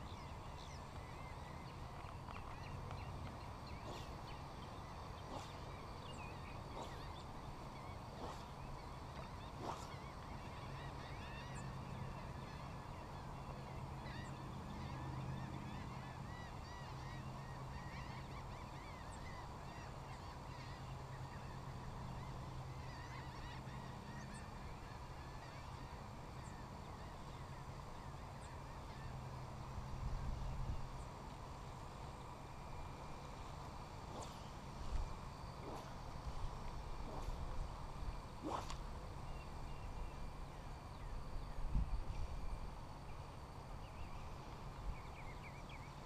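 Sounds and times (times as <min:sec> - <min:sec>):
birds calling: 0:00.0 - 0:46.0
steady low hum: 0:00.0 - 0:46.0.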